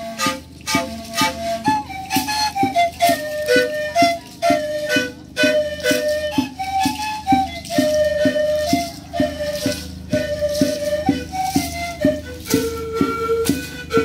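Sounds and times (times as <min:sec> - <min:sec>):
panpipes playing a melody: 0:00.0 - 0:14.0
steady low beat: 0:00.0 - 0:14.0.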